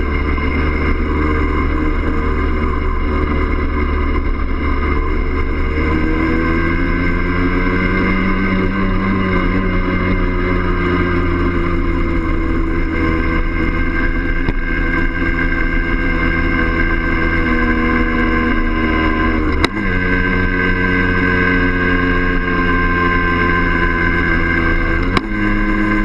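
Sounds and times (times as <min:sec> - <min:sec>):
two-stroke motorcycle engine: 0:00.0 - 0:26.0.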